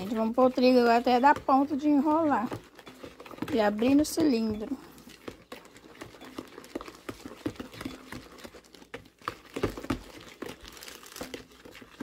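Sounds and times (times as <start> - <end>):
fork scraping plastic bowl: 0.0 - 12.0.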